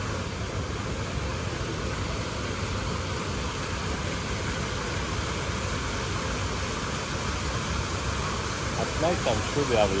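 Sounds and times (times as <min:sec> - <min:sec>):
rushing outdoor background noise: 0:00.0 - 0:10.0.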